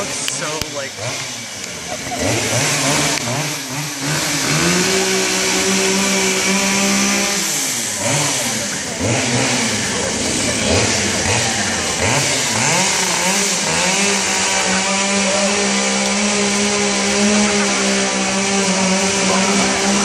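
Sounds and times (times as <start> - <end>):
chainsaw revving: 0.0 - 20.0.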